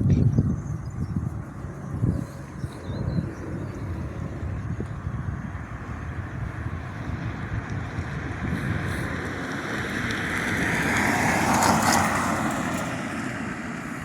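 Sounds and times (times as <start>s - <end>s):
vehicle passing by: 1.2s - 14.0s.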